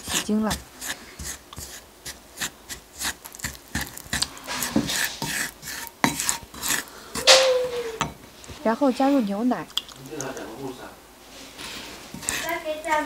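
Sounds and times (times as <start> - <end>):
wooden spoon scraping ceramic bowl: 0.0 - 9.8, 11.4 - 13.0.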